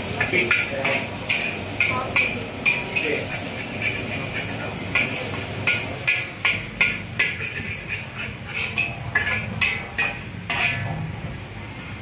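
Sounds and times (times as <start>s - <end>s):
metal spatula scraping a wok: 0.0s - 11.2s.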